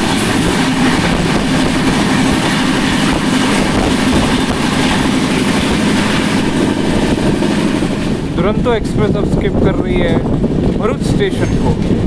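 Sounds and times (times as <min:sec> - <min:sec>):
low hum: 0:00.0 - 0:12.0
train wheels on rails: 0:00.0 - 0:12.0.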